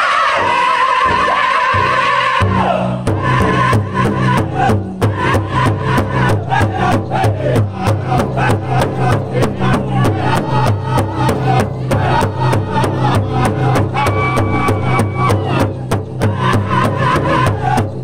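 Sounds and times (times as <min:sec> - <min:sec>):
men singing together: 0:00.0 - 0:18.0
large drum beaten in unison: 0:00.3 - 0:18.0.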